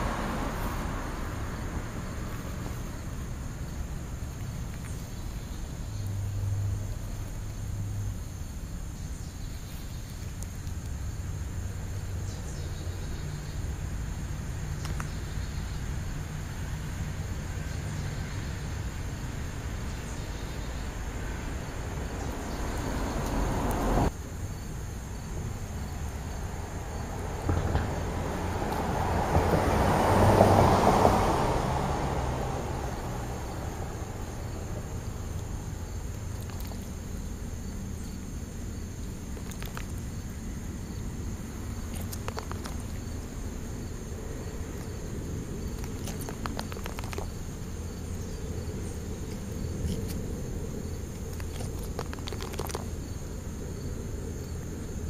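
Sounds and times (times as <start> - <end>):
vehicle passing by: 0.0 - 8.4, 11.0 - 24.2, 25.5 - 55.0
faint insect chirping: 0.0 - 55.0.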